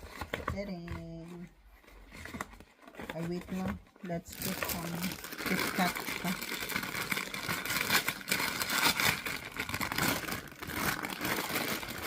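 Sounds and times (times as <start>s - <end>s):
wrappers crinkling: 0.0s - 12.0s.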